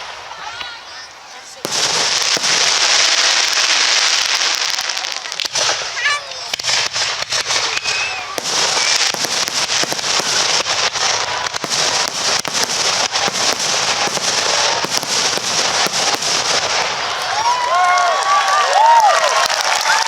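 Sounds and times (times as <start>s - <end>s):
fireworks pops and crackles: 0.0s - 20.0s.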